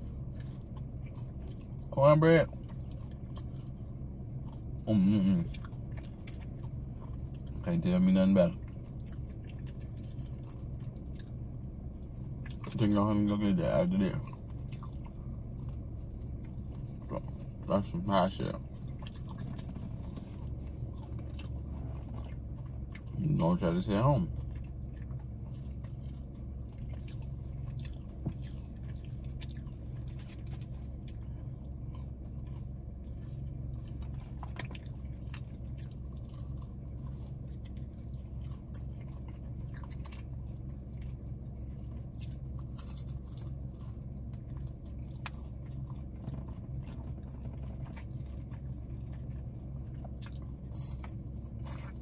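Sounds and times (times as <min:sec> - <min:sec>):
chewing chicken wing: 0:00.0 - 0:52.0
steady low hum: 0:00.0 - 0:52.0.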